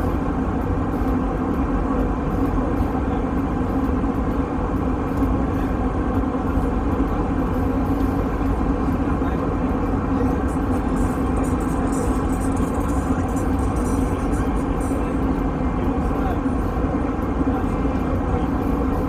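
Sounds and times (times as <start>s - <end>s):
airliner cabin engine drone: 0.0s - 19.0s.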